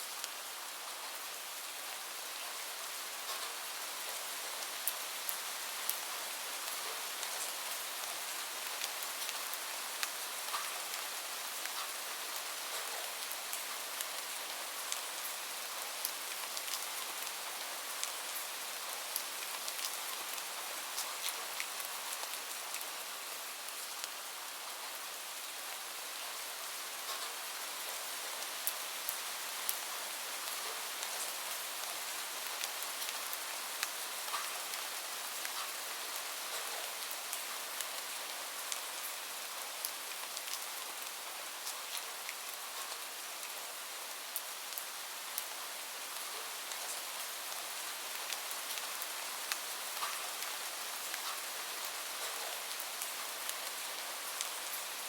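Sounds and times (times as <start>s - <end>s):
rain hiss: 0.0s - 55.0s
raindrops ticking on surface: 3.2s - 23.0s, 27.0s - 55.0s.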